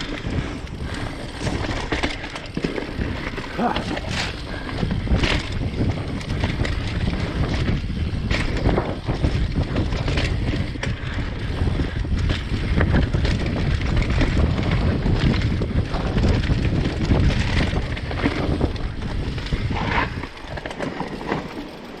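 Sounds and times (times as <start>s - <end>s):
bike knocks and rattles: 0.0s - 22.0s
bike tyres rolling on dirt: 0.0s - 22.0s
wind buffeting microphone: 0.0s - 22.0s.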